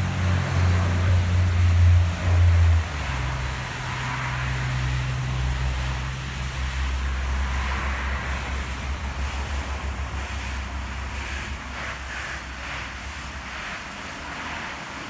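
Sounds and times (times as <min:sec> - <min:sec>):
water jets hissing: 0:00.0 - 0:15.0.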